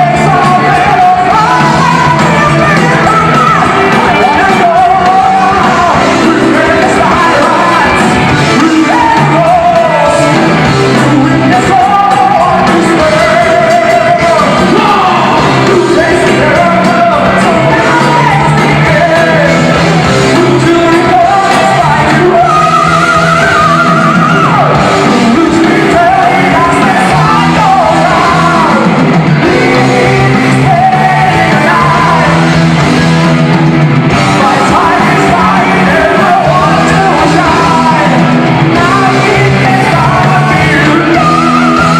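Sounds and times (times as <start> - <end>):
singer's high held vocals: 0.0 - 33.2, 34.1 - 41.9
heavy metal band playing live: 0.0 - 41.9.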